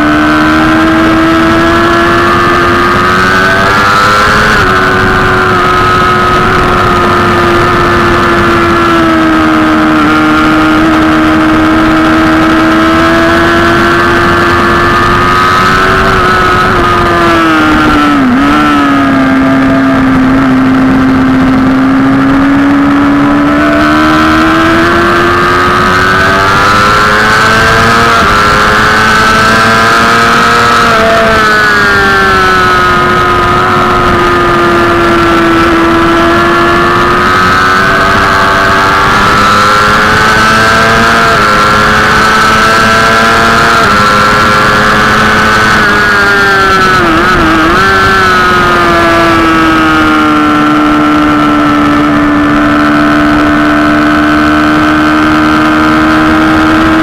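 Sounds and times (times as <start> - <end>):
gear change: 0.0 - 57.0
motorcycle engine revving: 0.0 - 57.0
wind noise: 0.0 - 57.0.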